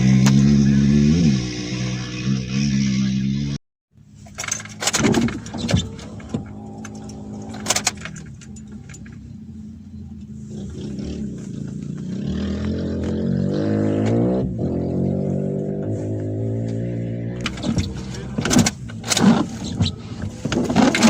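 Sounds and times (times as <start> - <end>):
vehicle engine revving: 0.0 - 3.6, 4.6 - 21.0.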